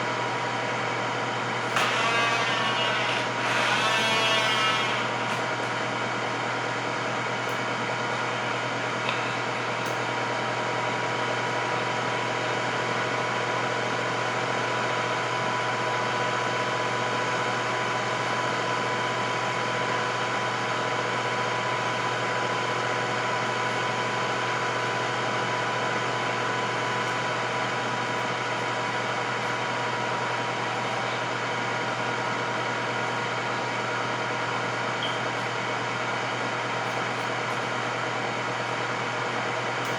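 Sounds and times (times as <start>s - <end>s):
air fryer fan hum: 0.0s - 39.9s.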